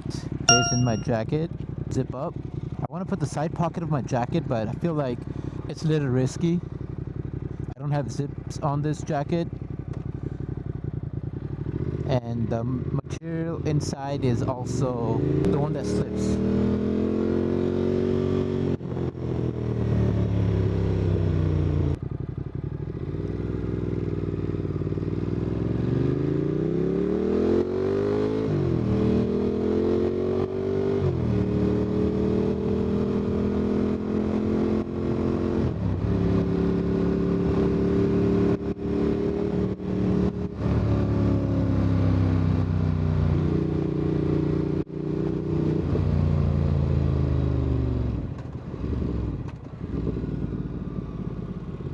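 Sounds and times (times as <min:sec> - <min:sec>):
motorcycle engine accelerating: 0:00.0 - 0:02.8, 0:05.2 - 0:12.9, 0:14.6 - 0:51.9.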